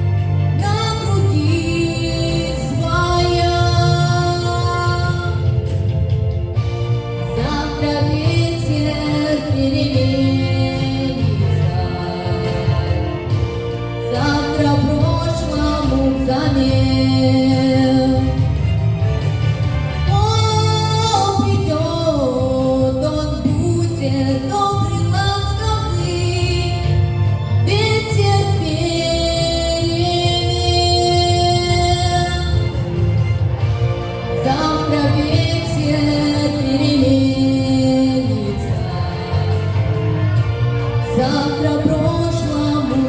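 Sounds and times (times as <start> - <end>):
instrumental backing track: 0.0 - 43.0
woman singing: 0.6 - 5.6, 7.2 - 13.3, 14.0 - 18.6, 20.1 - 27.0, 27.6 - 32.8, 34.4 - 40.1, 41.0 - 43.0.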